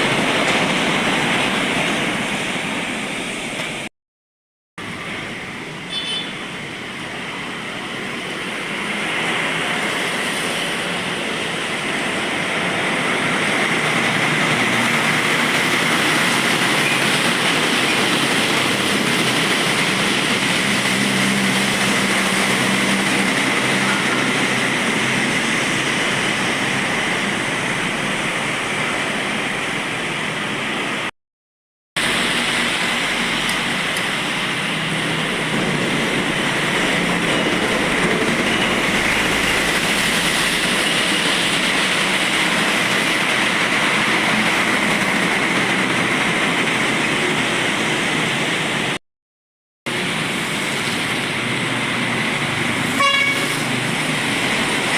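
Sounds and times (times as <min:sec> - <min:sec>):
trucks passing on wet road: 0:00.0 - 0:03.9, 0:04.8 - 0:31.1, 0:32.0 - 0:49.0, 0:49.9 - 0:54.9
tyres hissing on wet road: 0:00.0 - 0:03.9, 0:04.8 - 0:31.1, 0:32.0 - 0:49.0, 0:49.9 - 0:54.9.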